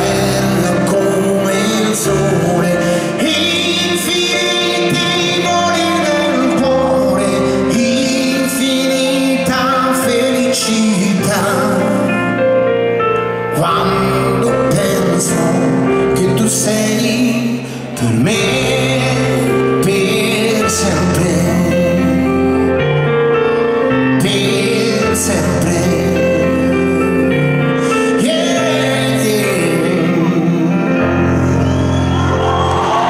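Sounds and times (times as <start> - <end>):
live band with singing: 0.0 - 12.5, 13.1 - 33.0.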